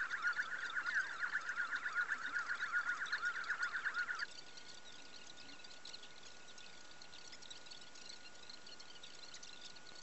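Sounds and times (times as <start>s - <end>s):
faint steady tone: 0.0s - 10.0s.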